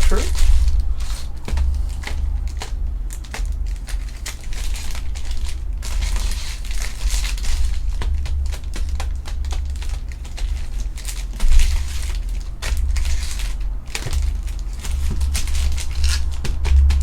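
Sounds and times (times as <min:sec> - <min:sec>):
plastic wrapping crinkling: 0:00.0 - 0:17.0
steady low hum: 0:00.0 - 0:17.0.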